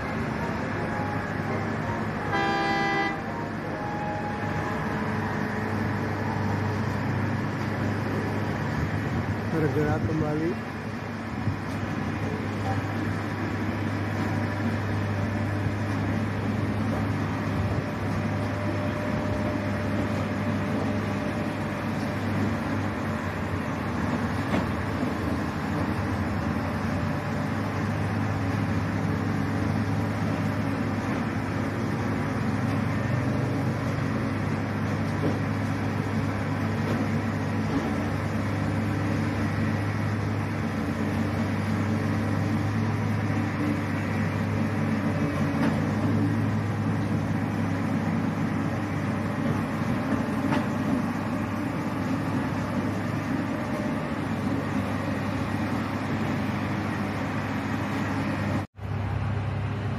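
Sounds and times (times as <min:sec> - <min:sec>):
heavy engine droning: 0:00.0 - 0:59.9.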